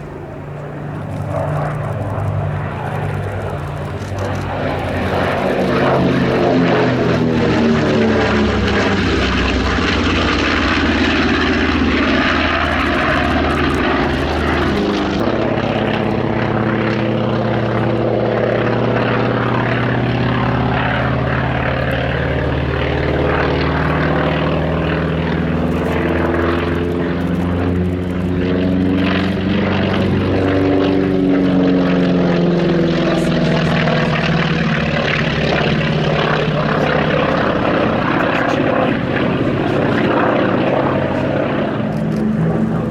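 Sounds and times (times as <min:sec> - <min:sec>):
propeller aircraft engines droning: 0:00.0 - 0:42.9.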